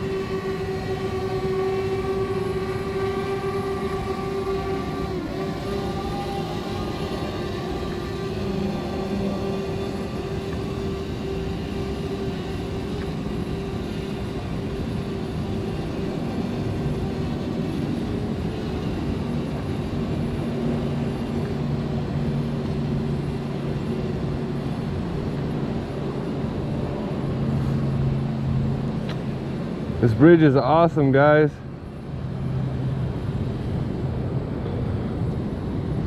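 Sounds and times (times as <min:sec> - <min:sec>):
constant rushing noise: 0:00.0 - 0:36.0
drone propellers humming: 0:00.0 - 0:36.0.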